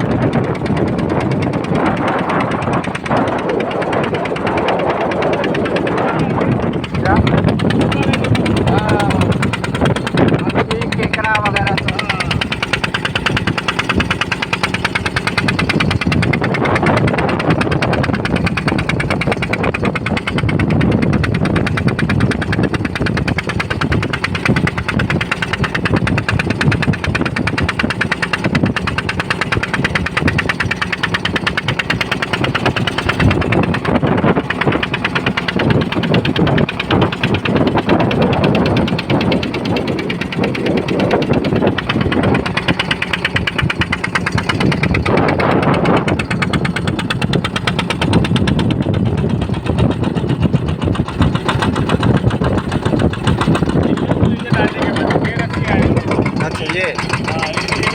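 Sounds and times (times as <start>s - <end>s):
boat engine running: 0.0s - 57.9s.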